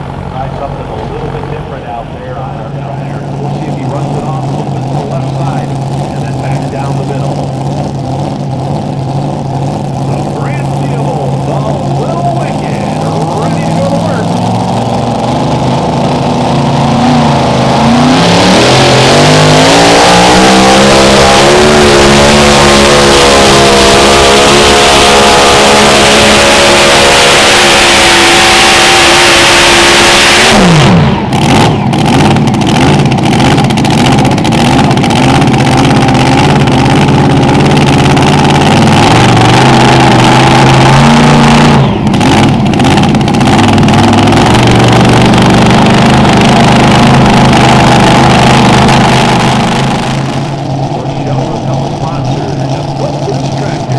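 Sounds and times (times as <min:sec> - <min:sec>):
tractor engine at full throttle: 0:00.0 - 0:53.9.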